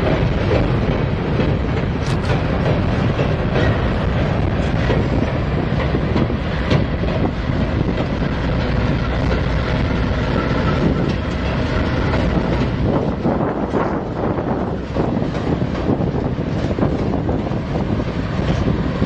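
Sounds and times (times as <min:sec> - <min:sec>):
diesel locomotives: 0:00.0 - 0:19.0
train wheels clacking on rails: 0:00.0 - 0:19.0.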